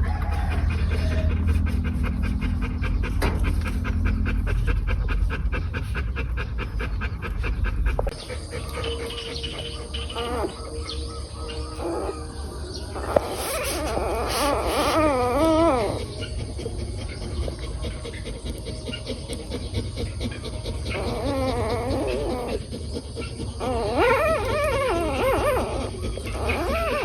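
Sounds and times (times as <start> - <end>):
puppies crying in squeals: 0.0 - 4.3, 8.1 - 27.0.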